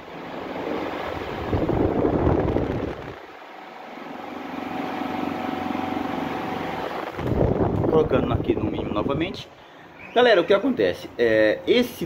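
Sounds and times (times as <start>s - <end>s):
fan air buffeting microphone: 0.0s - 12.0s.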